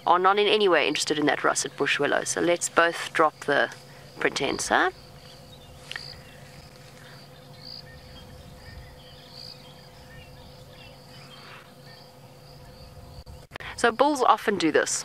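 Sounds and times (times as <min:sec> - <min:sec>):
insects buzzing: 0:00.0 - 0:15.0
low steady hum: 0:00.0 - 0:15.0
leafy rustles: 0:00.7 - 0:13.3.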